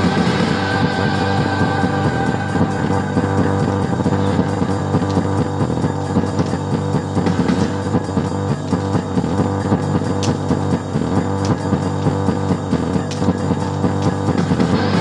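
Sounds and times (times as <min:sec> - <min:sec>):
rock music with guitar and drums: 0:00.0 - 0:15.0.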